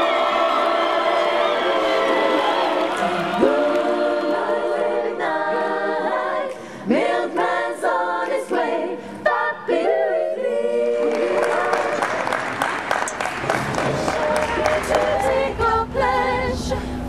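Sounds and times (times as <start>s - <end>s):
women's choir singing a cappella: 0.0s - 12.4s, 13.6s - 17.0s.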